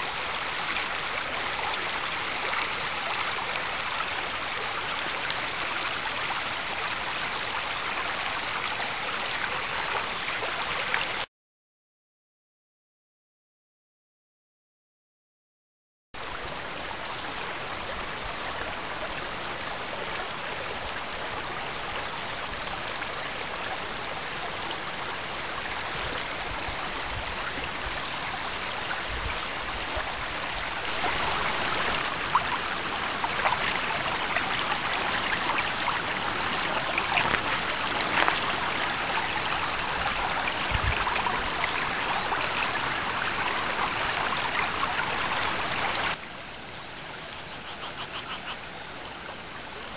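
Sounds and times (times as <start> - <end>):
water rushing down waterfall: 0.0 - 11.3, 16.2 - 46.9.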